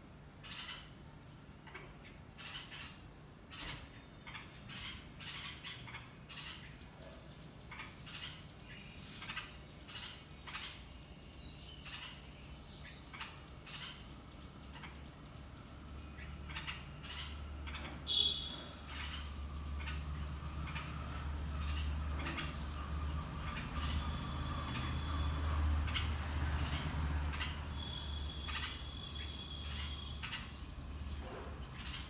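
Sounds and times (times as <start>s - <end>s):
birds chirping: 0.1s - 32.0s.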